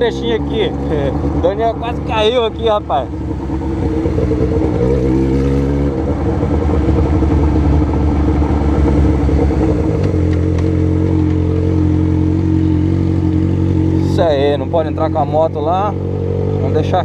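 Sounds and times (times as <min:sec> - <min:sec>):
motorcycle engine at low speed: 0:00.0 - 0:17.0.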